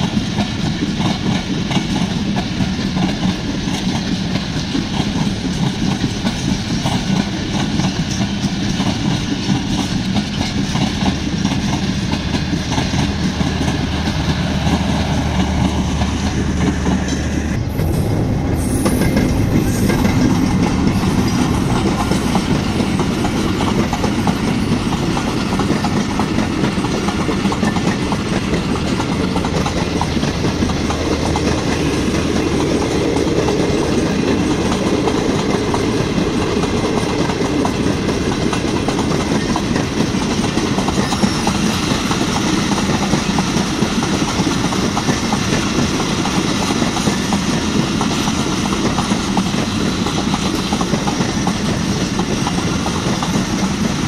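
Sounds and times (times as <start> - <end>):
train wheels clattering over joints: 0.0 - 54.0.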